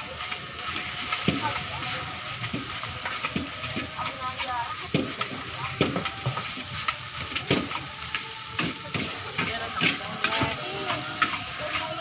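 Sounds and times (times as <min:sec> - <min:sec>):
rice sizzling in a hot pan: 0:00.0 - 0:12.0
spatula scraping and clanking pan: 0:00.0 - 0:12.0.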